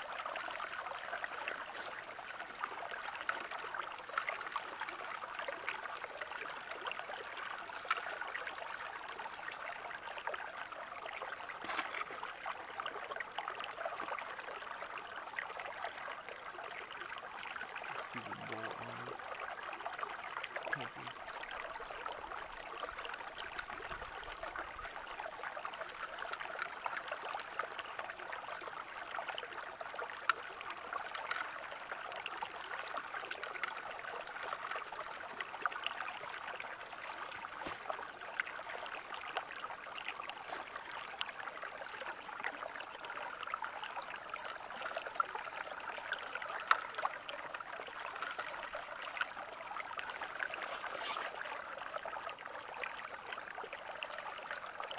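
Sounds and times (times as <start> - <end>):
water running through sluice box: 0.0 - 54.9.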